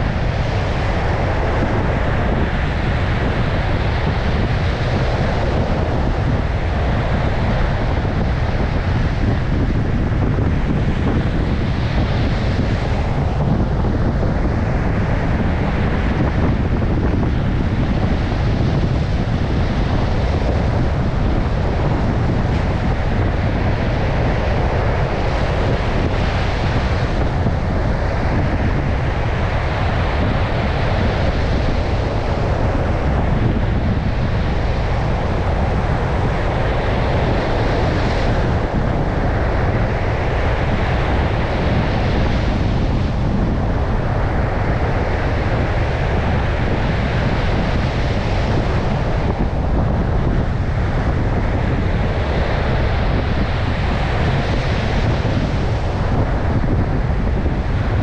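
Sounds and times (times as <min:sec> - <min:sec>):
surf breaking on beach: 0:00.0 - 0:58.0
wind buffeting microphone: 0:00.0 - 0:58.0.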